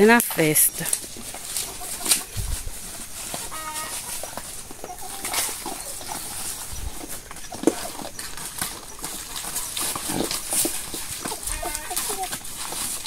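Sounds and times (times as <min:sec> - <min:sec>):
farm livestock calling: 0:00.8 - 0:08.2, 0:08.8 - 0:12.8.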